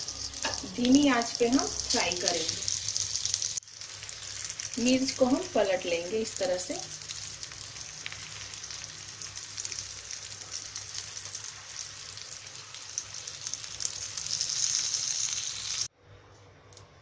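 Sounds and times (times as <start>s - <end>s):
chillies sizzling in a frying pan: 0.0s - 15.9s.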